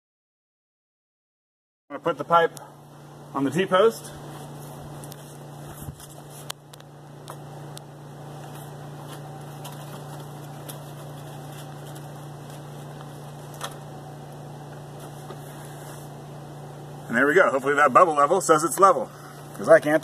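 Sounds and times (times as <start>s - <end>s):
steady low hum: 1.9s - 20.0s.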